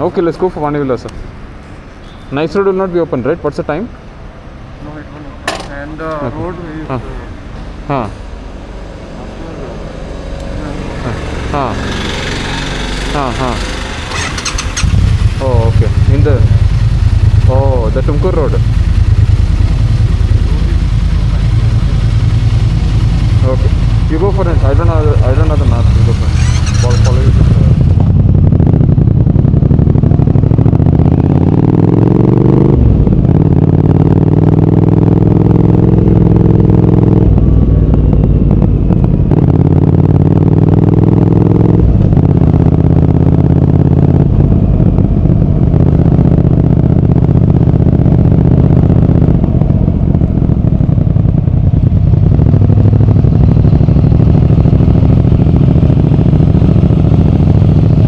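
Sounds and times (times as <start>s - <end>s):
motorcycle engine accelerating: 5.4s - 58.0s.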